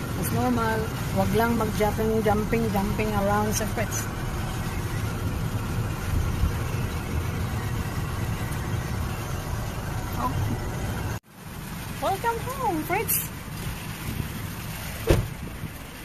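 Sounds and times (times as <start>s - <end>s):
car engine rumbling inside cabin: 0.0s - 16.0s.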